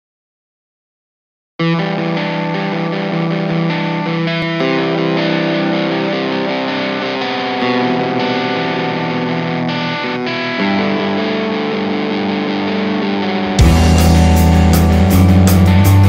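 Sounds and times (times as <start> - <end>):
distorted electric guitar chords: 1.6 - 16.0.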